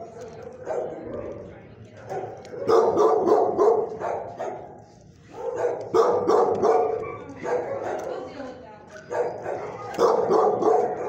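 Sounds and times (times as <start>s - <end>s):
dogs barking: 0.0s - 8.3s, 9.0s - 11.0s.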